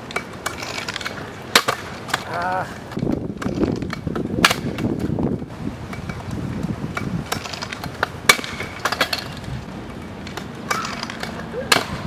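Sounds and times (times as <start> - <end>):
scooter clattering on ground: 0.0 - 12.0
scooter wheels rolling on asphalt: 0.0 - 12.0.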